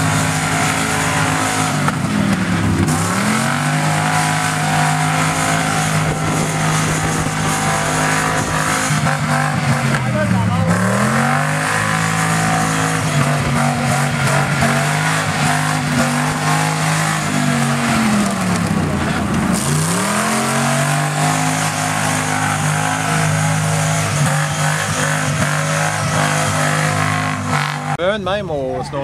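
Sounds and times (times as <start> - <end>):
suv engine revving: 0.0 - 28.1.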